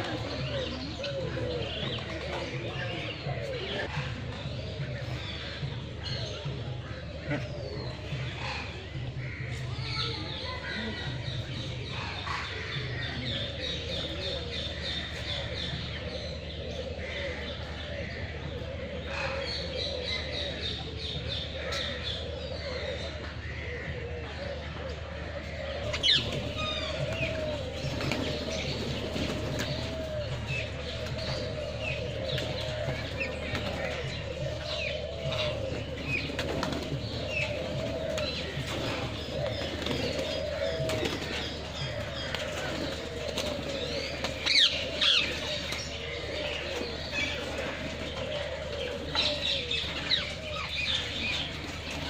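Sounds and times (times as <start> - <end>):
birds chirping and calling: 0.0 - 52.0
doves cooing: 0.0 - 52.0.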